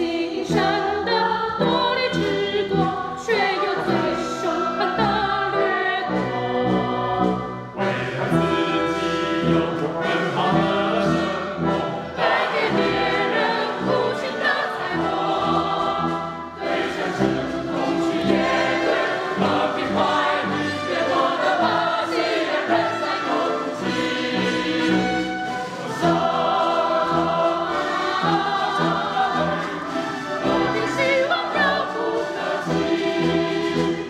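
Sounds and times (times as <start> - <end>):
choir singing: 0.0 - 34.0
orchestra playing: 0.0 - 34.0.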